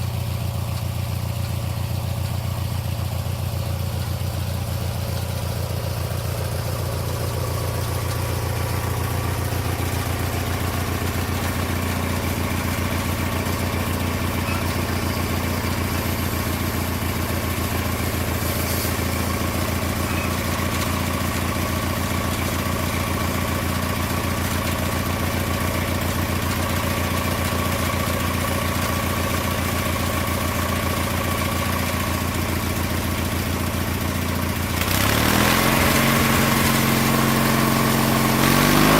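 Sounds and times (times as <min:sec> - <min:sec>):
higher engine tone: 0:00.0 - 0:33.4
small lawn mower engine running: 0:00.0 - 0:38.9.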